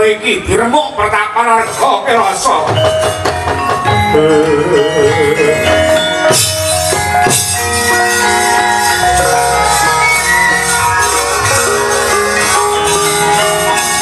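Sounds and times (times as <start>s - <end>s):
gamelan metallophone notes: 1.6s - 14.0s.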